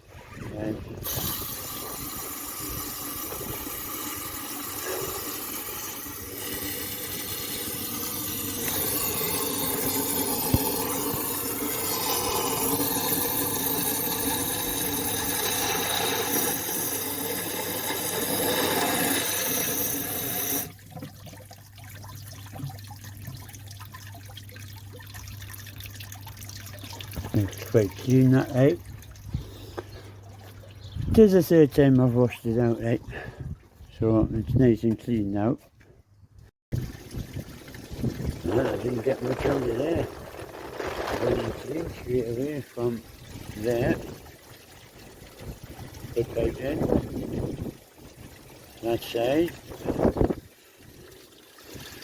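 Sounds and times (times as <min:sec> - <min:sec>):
water gushing from hose: 0:00.0 - 0:29.7, 0:36.7 - 0:52.0.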